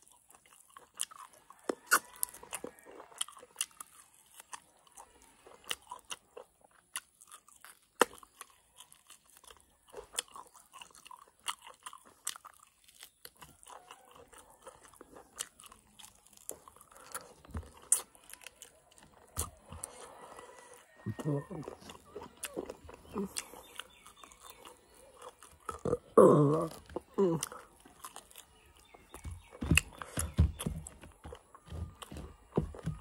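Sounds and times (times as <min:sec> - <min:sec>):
mouth clicks and crunches: 0:00.0 - 0:33.0
person chewing and biting: 0:00.0 - 0:33.0.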